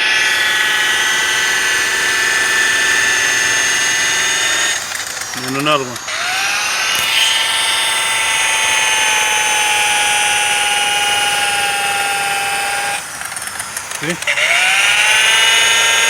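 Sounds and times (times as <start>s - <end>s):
rotary buffer whining: 0.0s - 16.0s.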